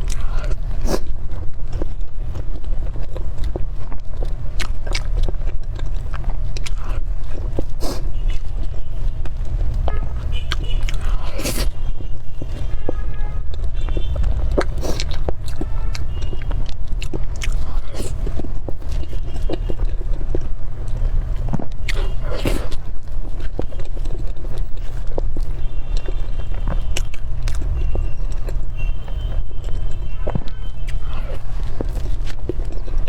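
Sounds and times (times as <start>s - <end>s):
wet chewing with mouth clicks: 0.0s - 33.0s.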